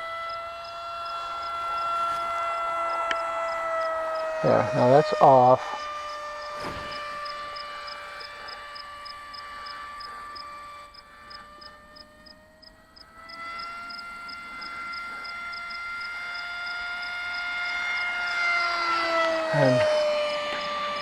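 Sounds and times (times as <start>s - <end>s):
electric motor and propeller whining: 0.0s - 21.0s.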